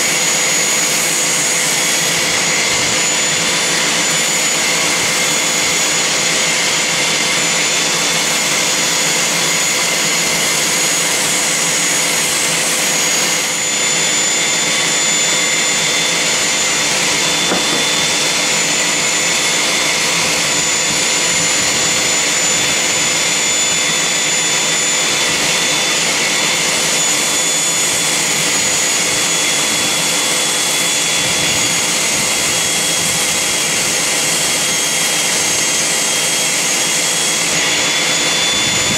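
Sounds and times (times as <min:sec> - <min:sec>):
orbit sander on wood: 0:00.0 - 0:38.9.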